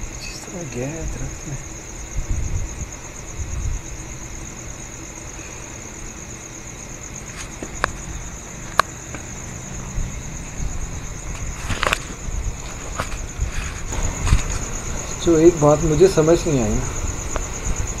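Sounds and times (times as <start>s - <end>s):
crickets chirping: 0.0s - 18.0s
low background rumble: 0.0s - 18.0s.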